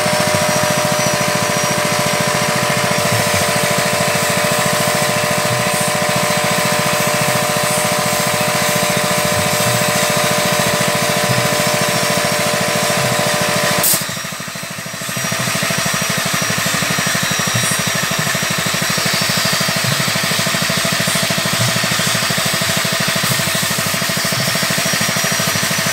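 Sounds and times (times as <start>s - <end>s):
machine engine pulsing: 0.0s - 25.9s.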